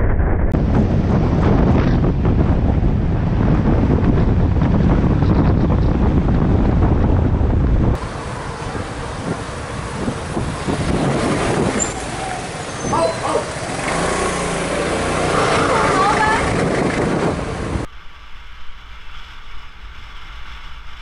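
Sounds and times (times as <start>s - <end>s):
wind rumble on microphone: 0.0s - 21.0s
road and traffic noise: 0.6s - 17.9s
street traffic noise: 0.6s - 17.9s.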